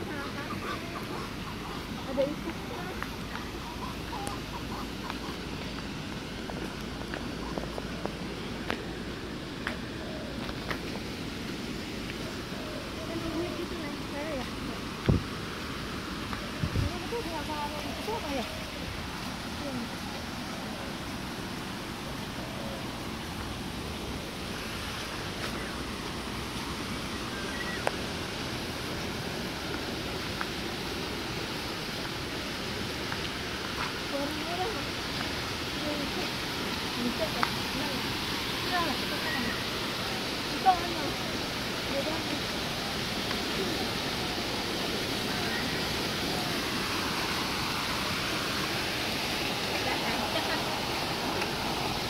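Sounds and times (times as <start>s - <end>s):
running water: 0.0s - 52.0s
wind: 0.0s - 52.0s.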